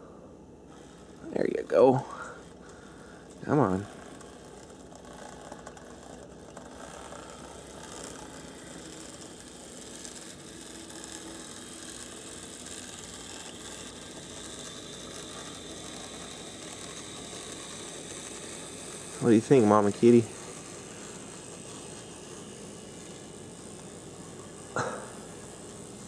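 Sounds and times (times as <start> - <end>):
model train motor running: 0.0 - 26.0.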